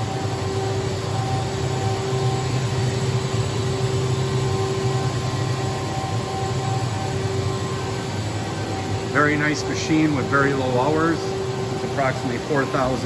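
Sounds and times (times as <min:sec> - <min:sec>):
machinery hum: 0:00.0 - 0:13.0
high steady tones: 0:00.3 - 0:13.0.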